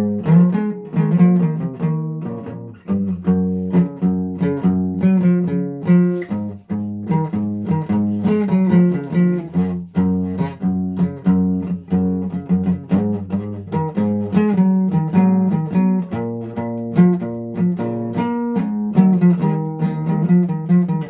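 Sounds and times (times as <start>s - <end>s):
guitar picking single notes: 0.0s - 21.0s.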